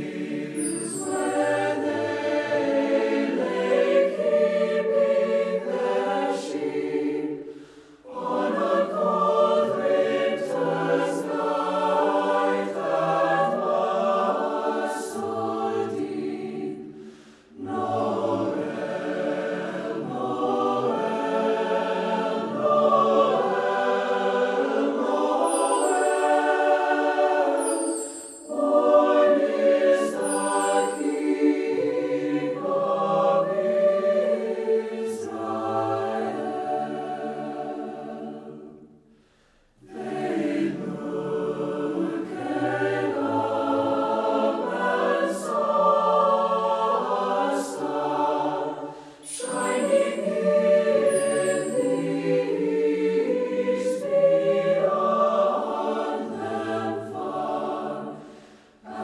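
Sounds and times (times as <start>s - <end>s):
choir singing slow christmas song: 0.0s - 59.0s.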